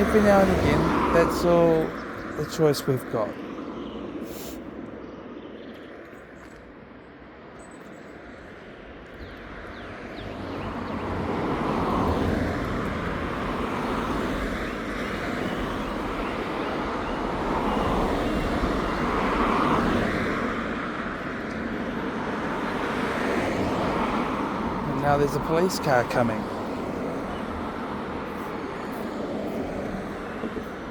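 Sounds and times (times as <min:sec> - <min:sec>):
cars passing: 0:00.0 - 0:30.9.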